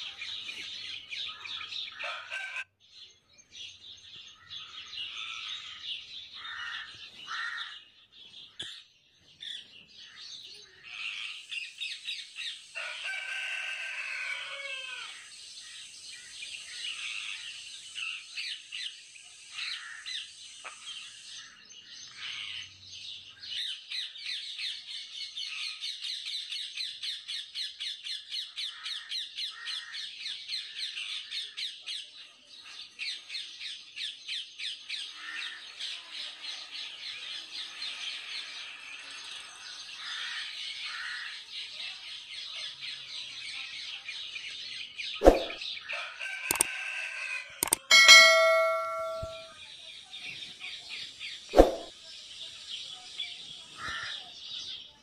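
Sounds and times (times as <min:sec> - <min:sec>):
small birds chirping: 0:00.0 - 0:12.9, 0:15.0 - 0:46.7, 0:47.6 - 0:55.0.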